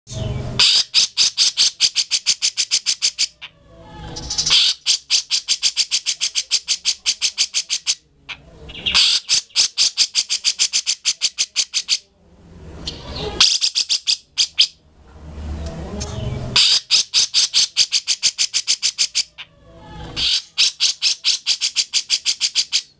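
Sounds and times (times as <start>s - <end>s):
bird singing: 0.1s - 12.1s, 15.6s - 22.9s.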